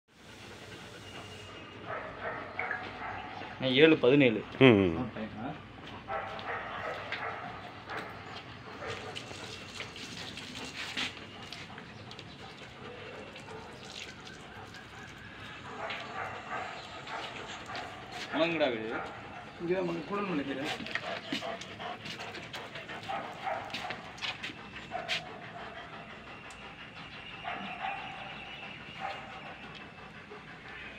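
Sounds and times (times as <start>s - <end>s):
dogs panting: 0.1s - 30.9s.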